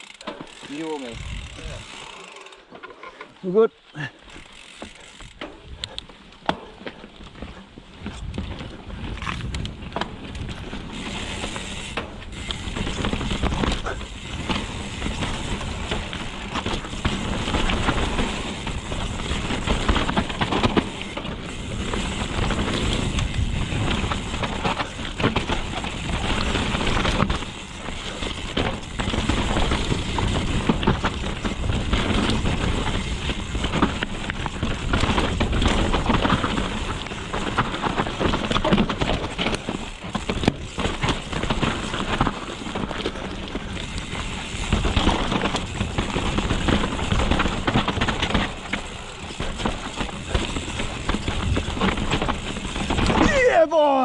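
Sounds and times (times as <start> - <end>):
bike knocking and rattling: 0.0 - 3.4, 4.0 - 54.0
tyre and wind rush: 0.7 - 2.0, 7.3 - 54.0.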